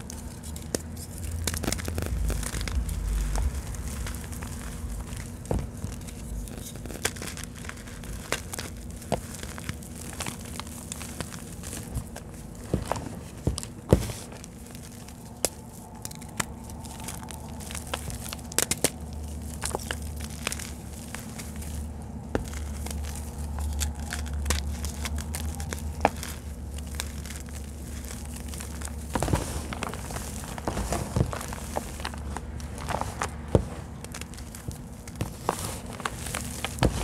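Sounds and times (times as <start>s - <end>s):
dry clay crunching: 0.0s - 37.0s
steady low hum: 0.0s - 37.0s.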